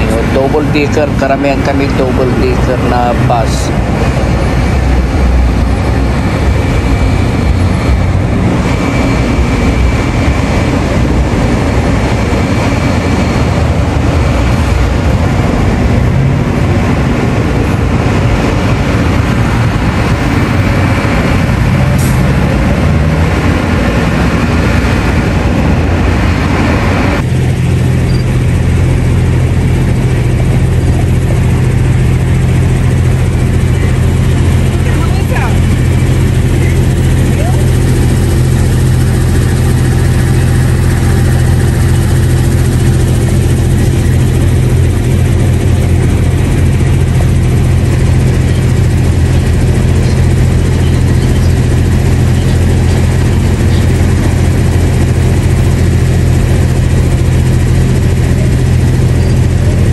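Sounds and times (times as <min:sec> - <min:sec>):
bus and car engines rumbling: 0:00.0 - 0:59.9
low engine hum: 0:00.0 - 0:59.9
road noise: 0:00.0 - 0:59.9.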